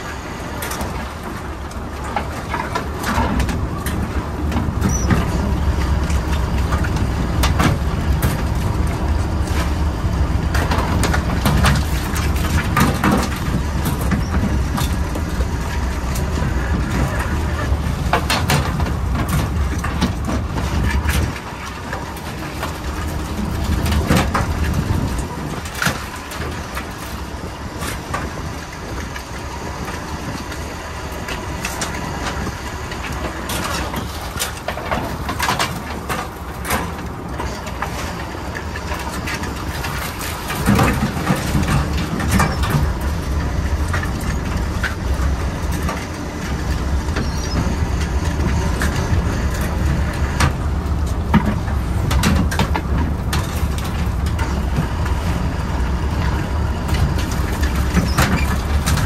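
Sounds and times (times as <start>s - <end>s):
boat engine droning: 0.0s - 59.0s
wire crab pots rattling: 0.6s - 59.0s.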